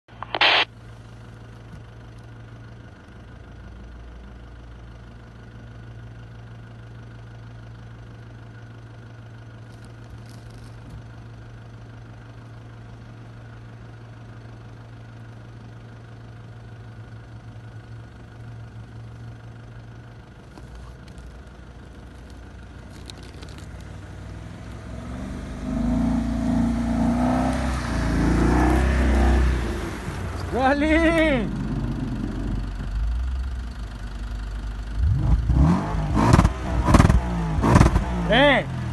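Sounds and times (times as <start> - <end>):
car engine humming: 0.0 - 38.9.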